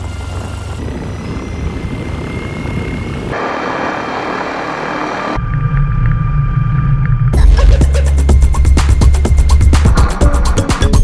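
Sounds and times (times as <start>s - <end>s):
deep steady hum: 0.0s - 10.7s
propeller whine: 0.0s - 11.0s.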